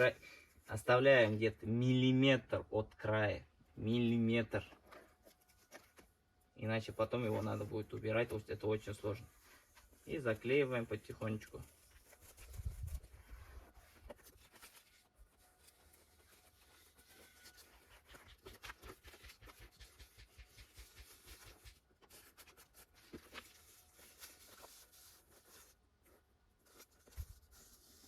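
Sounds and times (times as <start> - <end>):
tape rustling and crackling: 4.4 - 28.0.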